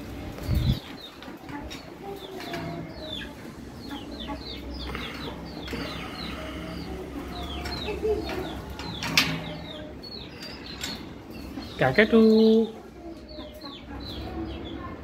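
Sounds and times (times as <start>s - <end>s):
caged birds chirping: 0.0s - 15.0s.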